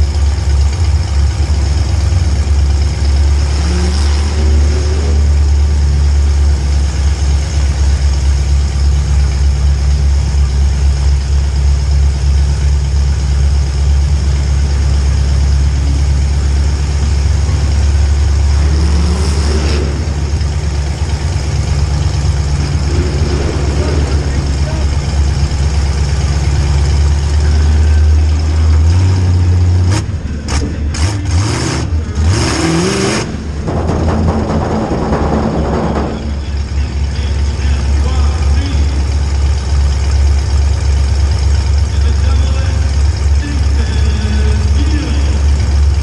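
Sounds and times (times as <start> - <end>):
vehicle engine idling and revving: 0.0 - 46.0.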